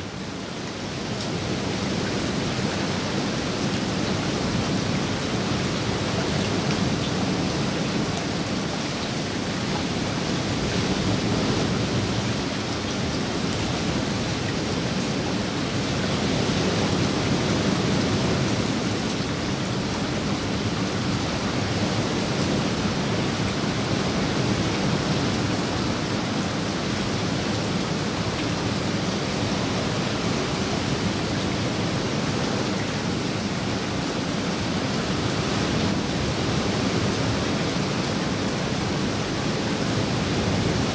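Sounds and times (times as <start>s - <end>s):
rain falling on water and foliage: 0.0s - 40.9s.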